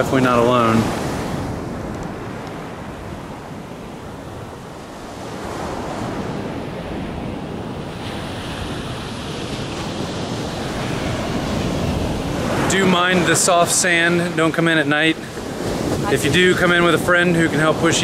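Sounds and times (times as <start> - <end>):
small waves breaking on beach: 0.0 - 18.0
wind on microphone: 0.0 - 18.0.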